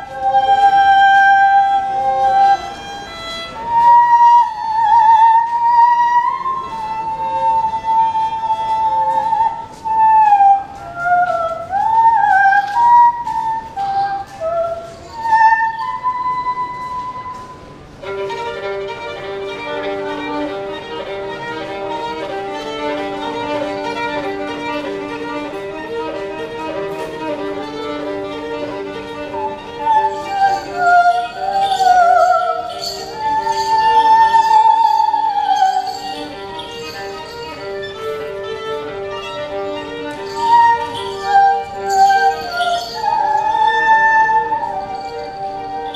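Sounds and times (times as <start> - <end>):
violin melody: 0.0 - 45.9.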